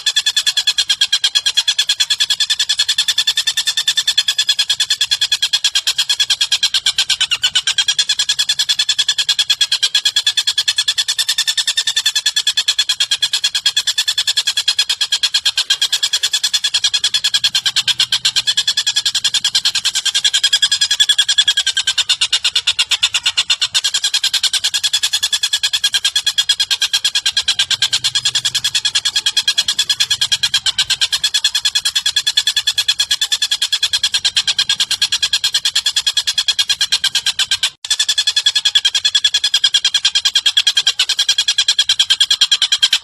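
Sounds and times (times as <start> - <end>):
rapid bird call trill: 0.0 - 43.0.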